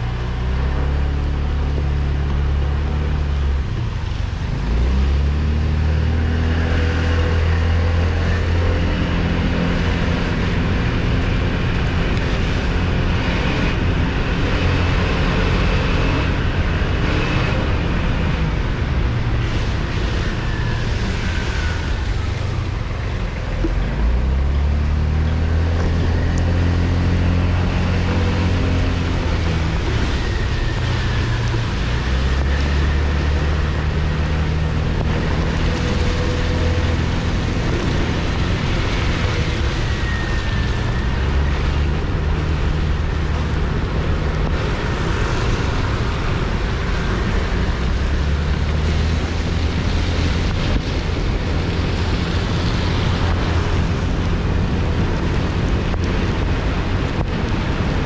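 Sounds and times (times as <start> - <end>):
road and vehicle noise: 0.0 - 58.0
wind rushing over microphone: 0.0 - 58.0.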